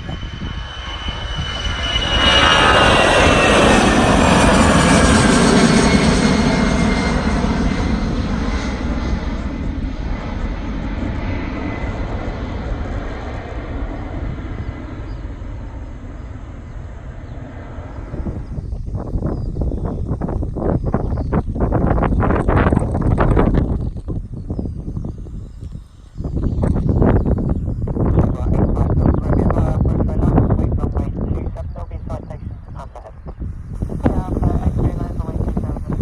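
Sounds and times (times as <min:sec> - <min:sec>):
jet aircraft passing: 0:00.0 - 0:36.0.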